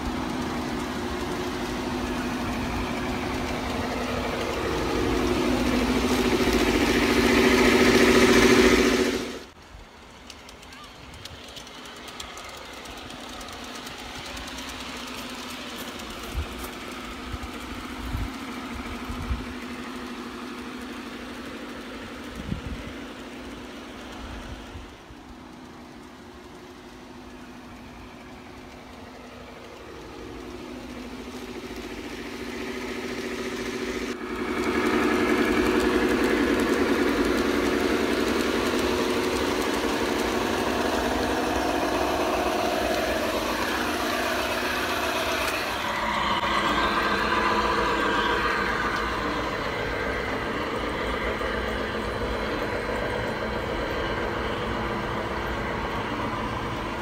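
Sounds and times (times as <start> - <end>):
model train motor and wheel hum: 0.0 - 57.0.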